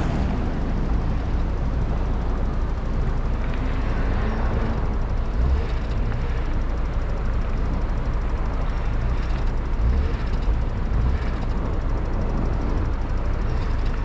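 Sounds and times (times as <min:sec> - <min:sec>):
car driving road noise: 0:00.0 - 0:14.0.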